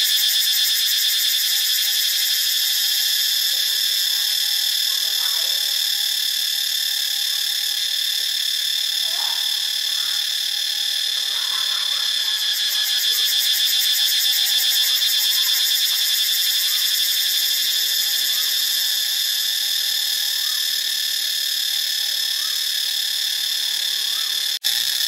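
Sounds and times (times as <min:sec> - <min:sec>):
cicada buzzing: 0:00.0 - 0:25.0.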